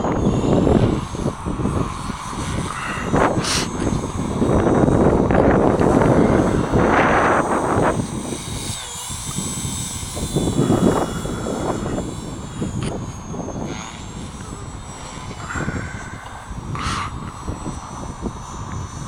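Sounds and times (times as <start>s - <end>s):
helicopter motor and rotor whine: 0.0s - 19.0s
wind rumbling on microphone: 0.0s - 19.0s.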